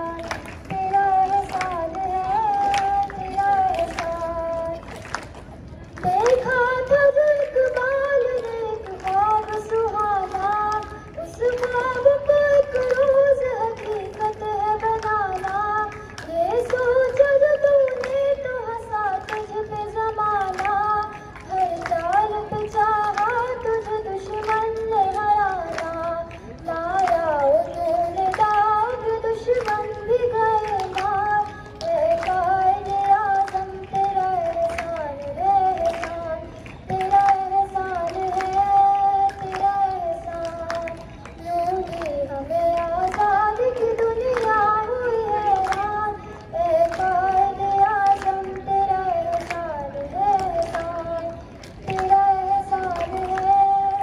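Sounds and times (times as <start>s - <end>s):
girl singing into microphone: 0.0s - 54.0s.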